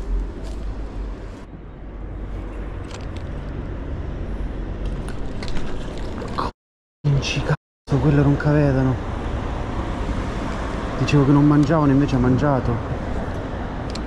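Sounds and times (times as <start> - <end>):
low urban rumble: 0.0 - 14.0.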